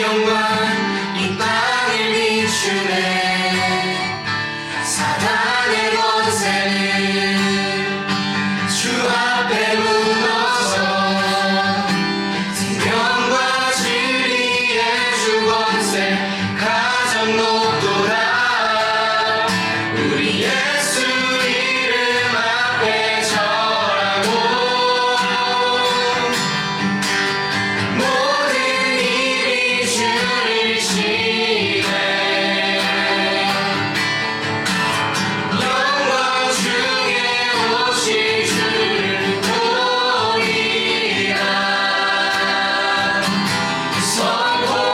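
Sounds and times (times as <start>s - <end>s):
band playing worship song: 0.0s - 44.9s
group of voices singing: 0.0s - 44.9s.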